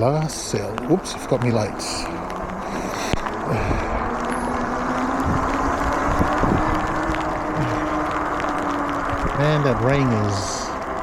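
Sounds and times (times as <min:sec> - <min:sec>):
wind and wet tyres rushing: 0:00.0 - 0:11.0.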